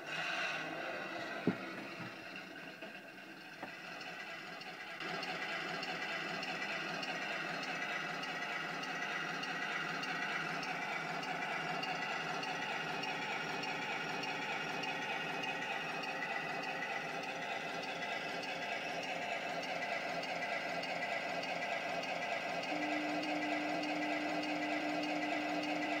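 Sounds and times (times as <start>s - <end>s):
simulated tank engine idling: 0.0s - 26.0s.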